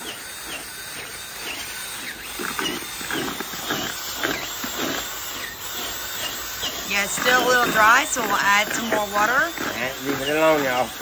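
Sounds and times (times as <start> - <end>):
drill mixing dry feed in bucket: 0.0 - 11.0.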